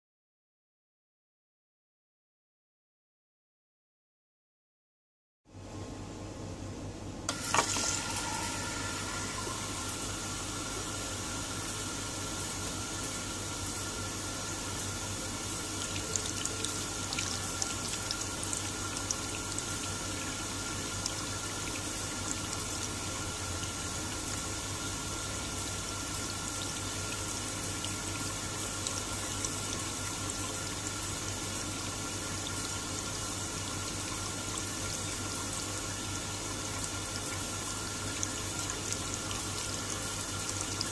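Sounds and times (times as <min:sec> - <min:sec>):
faucet water running into container: 0:07.3 - 0:40.9.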